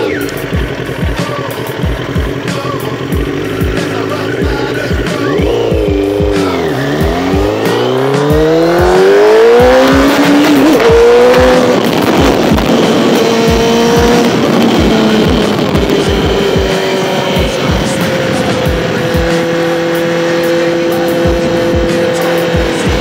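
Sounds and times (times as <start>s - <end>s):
music with heavy bass beat: 0.0s - 23.0s
whining tone: 0.0s - 23.0s.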